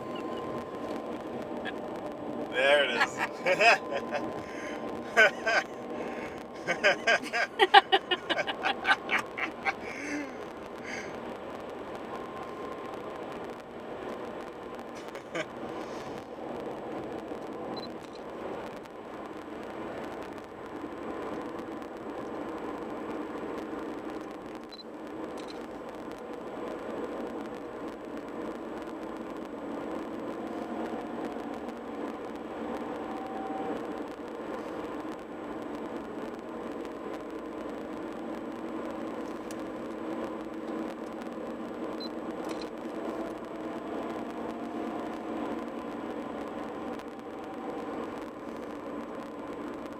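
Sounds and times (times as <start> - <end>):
car cabin road and engine noise: 0.0 - 49.9.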